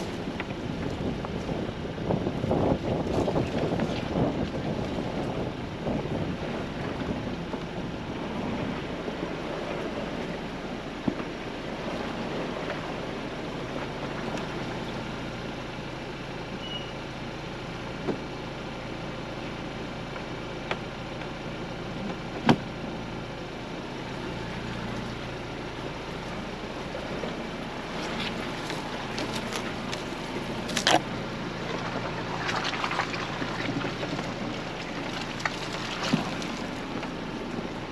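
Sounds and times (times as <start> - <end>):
vehicle engine rumble: 0.0 - 37.9.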